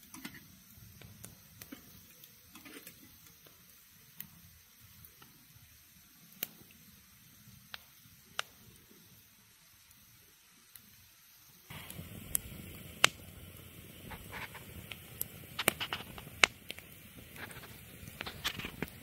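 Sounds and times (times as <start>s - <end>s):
campfire crackling and popping: 0.0s - 11.0s, 11.7s - 19.0s.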